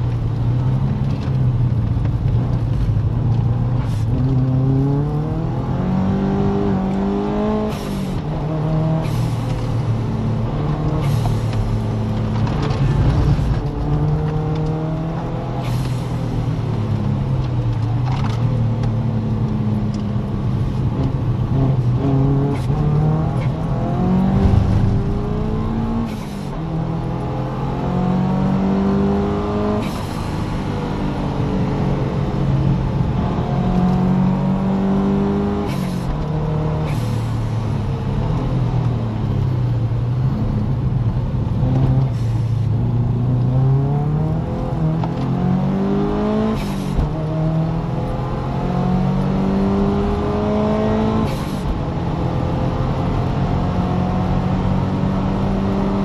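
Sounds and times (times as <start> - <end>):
car engine revving: 0.0 - 39.4, 40.4 - 56.0.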